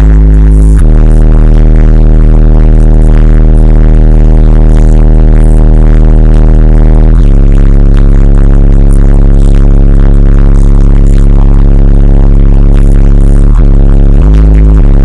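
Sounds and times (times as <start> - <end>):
distorted subwoofer bass tone: 0.0 - 15.0.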